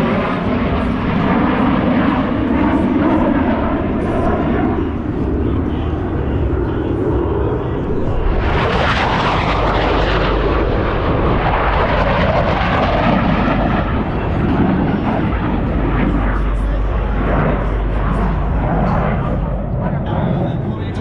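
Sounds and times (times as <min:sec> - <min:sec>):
jet roar: 0:00.0 - 0:21.0.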